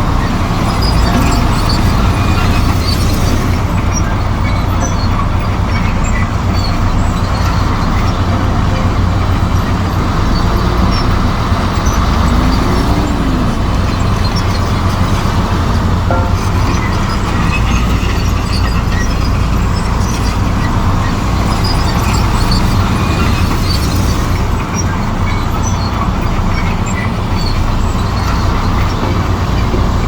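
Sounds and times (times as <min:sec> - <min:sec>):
bulldozer diesel engine droning: 0:00.0 - 0:30.0.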